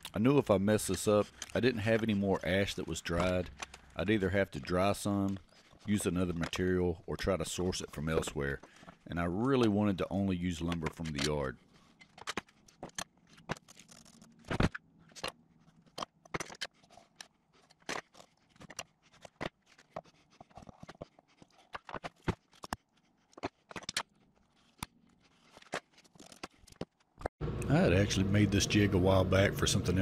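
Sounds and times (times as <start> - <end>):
tools clicking and scraping wood: 0.0 - 27.4.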